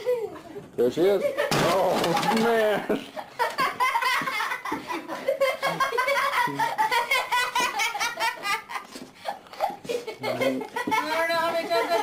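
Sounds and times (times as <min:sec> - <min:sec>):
people laughing hard: 0:01.1 - 0:12.0.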